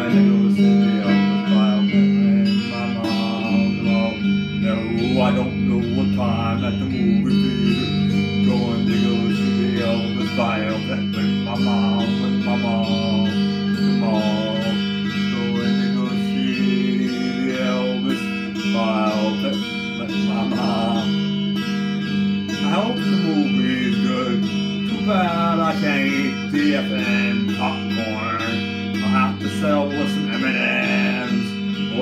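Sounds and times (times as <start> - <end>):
man singing: 0.0 - 21.4, 22.4 - 32.0
electric guitar strumming: 0.0 - 32.0.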